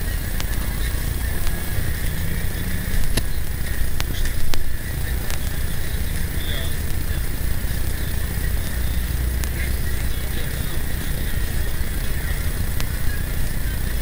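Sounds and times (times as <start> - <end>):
bus engine and road rumble: 0.0 - 14.0
faint clicks: 0.0 - 14.0.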